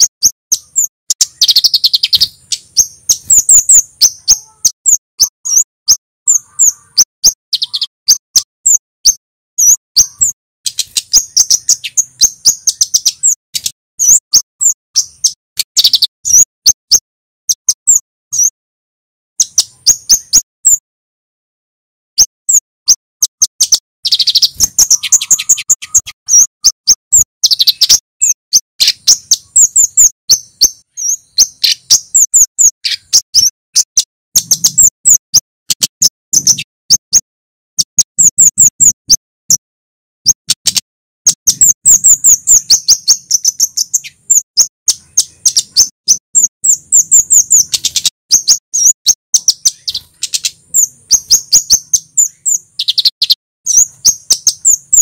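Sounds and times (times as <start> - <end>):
bird singing sharp high chips: 0.0 - 18.6, 19.4 - 20.8, 22.2 - 39.6, 40.2 - 55.0.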